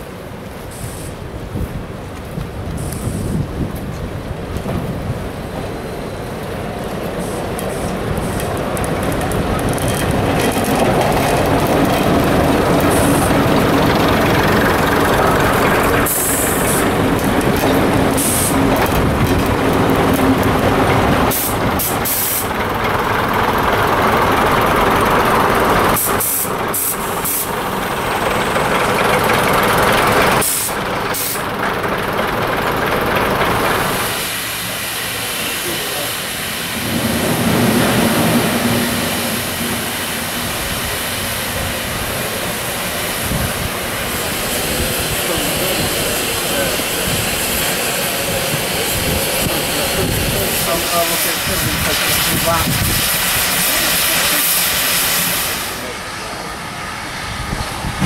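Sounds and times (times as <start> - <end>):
train rumbling: 0.0 - 58.0
steam hissing: 0.6 - 1.3, 2.8 - 3.6, 10.1 - 58.0.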